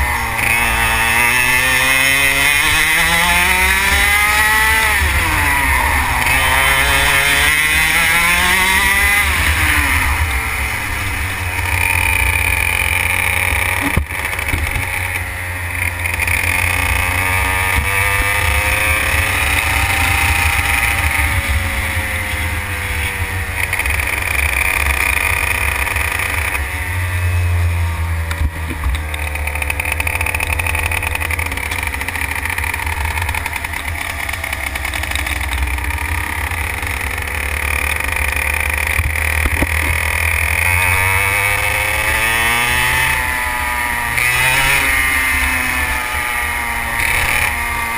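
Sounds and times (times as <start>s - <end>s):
kart engine revving: 0.0s - 47.9s.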